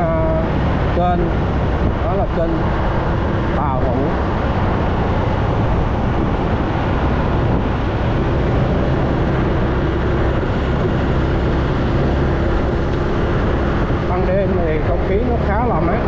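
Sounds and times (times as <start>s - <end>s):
road noise: 0.0s - 16.0s
scooter engine drone: 0.0s - 16.0s
wind rush: 0.0s - 16.0s.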